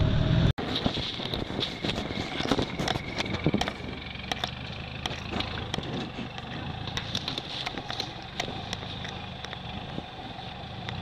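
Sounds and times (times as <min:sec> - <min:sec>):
loud off-road vehicle engine: 0:00.0 - 0:11.0
vehicle engine running quietly: 0:01.8 - 0:11.0.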